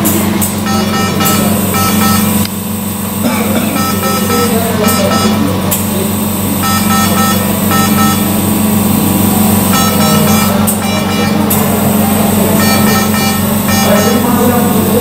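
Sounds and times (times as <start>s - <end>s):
steady low hum: 0.0s - 15.0s
ventilator alarm beeps: 0.0s - 15.0s.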